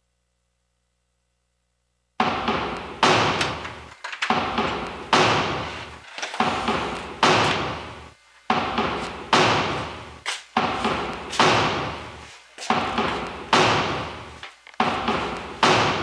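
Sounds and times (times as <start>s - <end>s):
heavy reverberant thuds: 2.2s - 16.0s.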